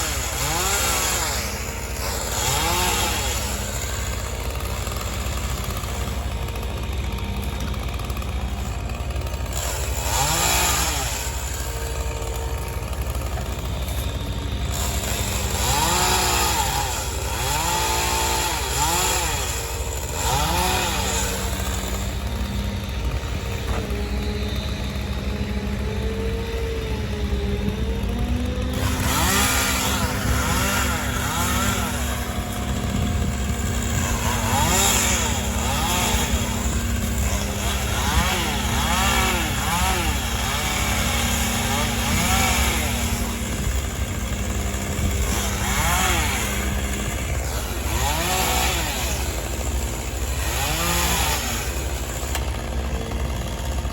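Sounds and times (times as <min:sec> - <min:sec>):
diesel engine idling: 0:00.0 - 0:48.3, 0:51.7 - 0:53.9
chainsaw revving: 0:00.0 - 0:53.9.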